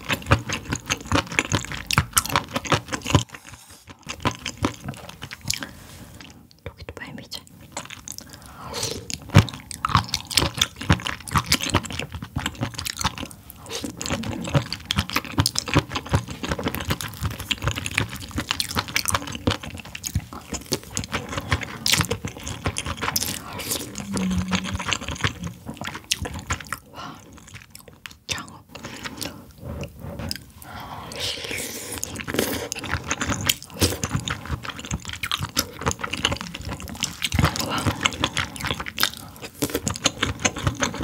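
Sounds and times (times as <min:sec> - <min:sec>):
wet chewing and slurping: 0:00.0 - 0:06.6, 0:07.6 - 0:41.0.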